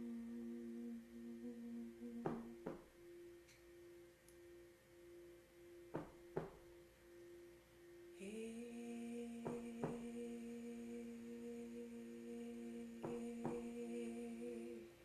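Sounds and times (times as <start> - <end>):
lower steady tone: 0.0 - 15.0
singing bowl ringing: 0.0 - 15.0.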